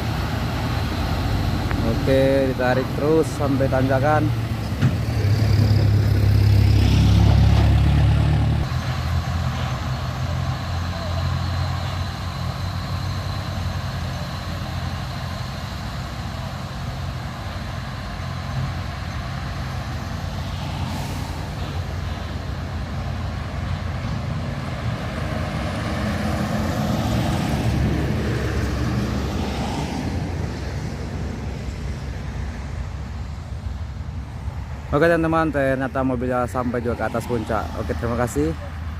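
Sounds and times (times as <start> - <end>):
diesel truck engine labouring: 0.0 - 31.8.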